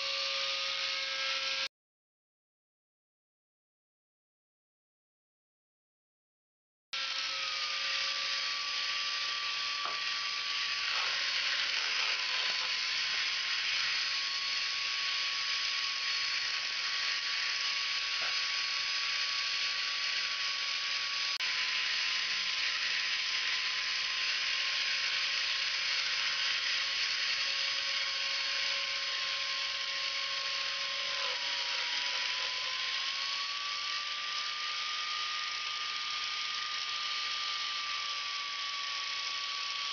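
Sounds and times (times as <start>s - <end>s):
rotary tool grinding glass: 0.0s - 1.7s, 7.0s - 39.9s.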